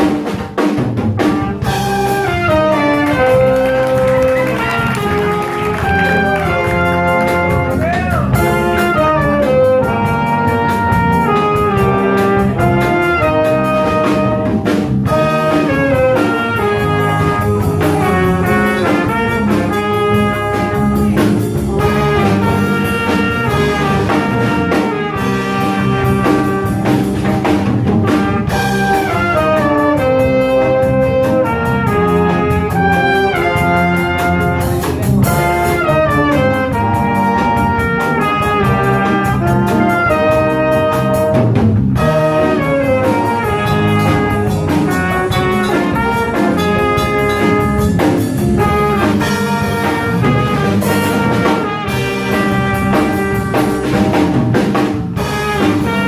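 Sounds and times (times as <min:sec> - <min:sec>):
jazz combo playing: 0:00.0 - 0:56.0
brass horn lines: 0:01.2 - 0:56.0.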